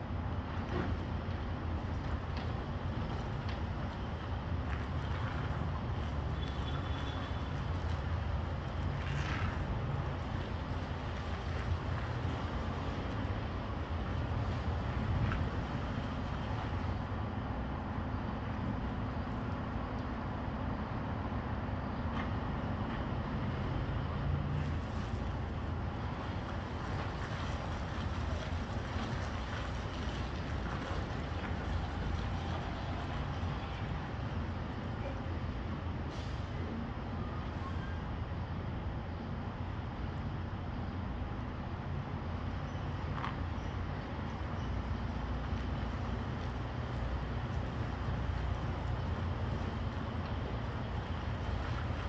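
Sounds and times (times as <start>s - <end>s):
diesel truck engine rumbling: 0.0s - 52.0s.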